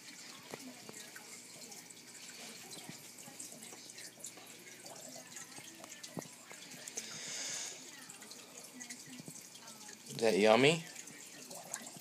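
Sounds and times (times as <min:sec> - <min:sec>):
aquarium bubbling: 0:00.0 - 0:12.0
water trickling and dripping: 0:00.0 - 0:12.0.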